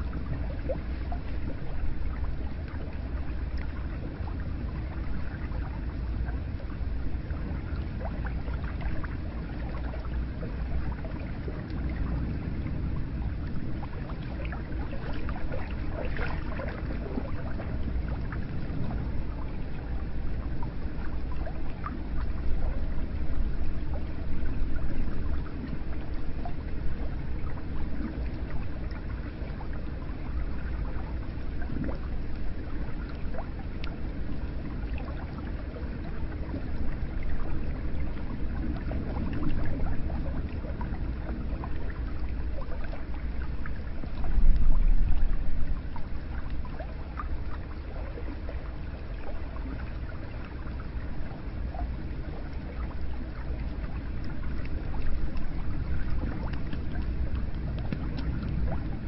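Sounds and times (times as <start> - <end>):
water drips and trickles: 0.0 - 59.0.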